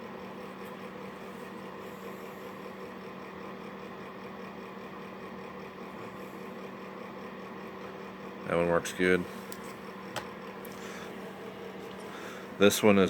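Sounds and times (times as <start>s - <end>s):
machine hum with low tones: 0.0s - 13.0s.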